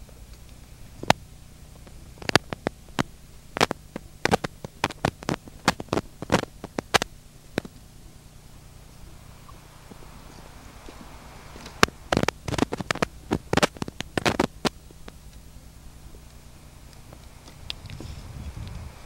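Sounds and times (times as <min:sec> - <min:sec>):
low camcorder hum: 0:00.0 - 0:19.0.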